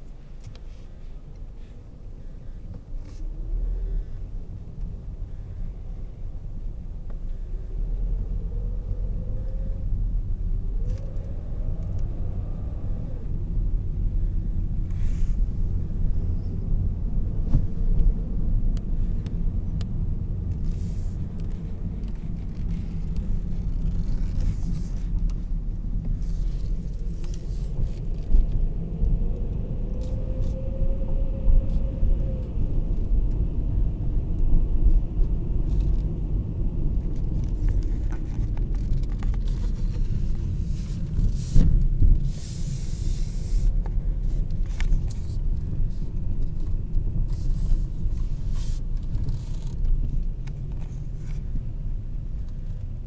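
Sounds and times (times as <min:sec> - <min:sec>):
low rumble: 0:00.0 - 0:53.0.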